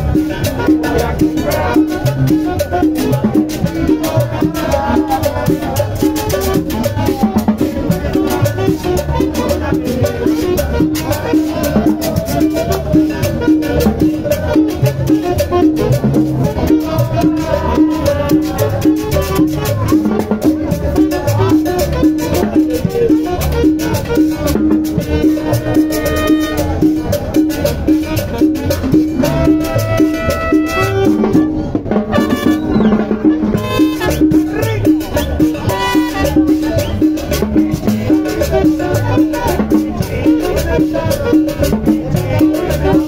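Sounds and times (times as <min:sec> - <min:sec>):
latin dance music: 0:00.0 - 0:43.0.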